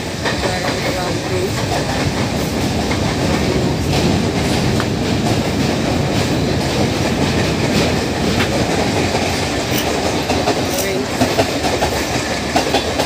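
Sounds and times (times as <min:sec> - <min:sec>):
wheel and rail rumble: 0:00.0 - 0:13.0
wheels clicking over rail joints: 0:00.0 - 0:13.0.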